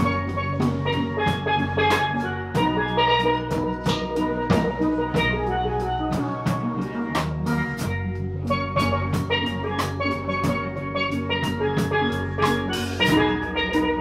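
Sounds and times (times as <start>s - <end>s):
drum kit with cymbals: 0.0s - 14.0s
steel pans playing melody: 0.0s - 14.0s.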